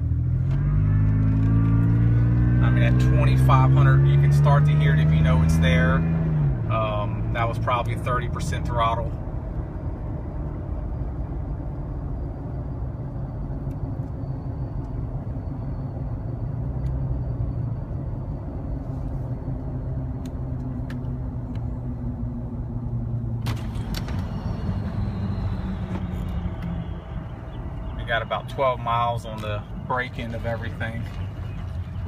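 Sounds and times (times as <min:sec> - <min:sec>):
car engine and road drone: 0:00.0 - 0:32.0
high supercharger whine: 0:00.0 - 0:32.0.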